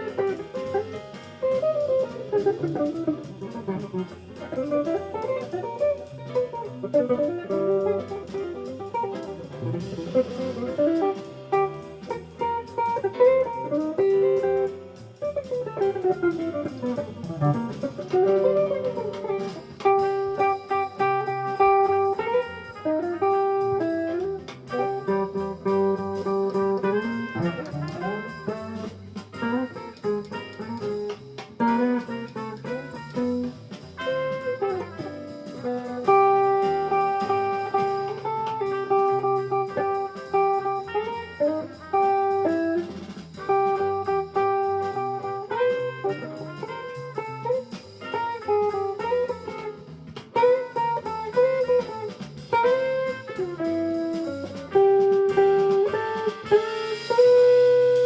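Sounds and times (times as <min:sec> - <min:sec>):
jazz guitar melody: 0:00.0 - 0:58.0.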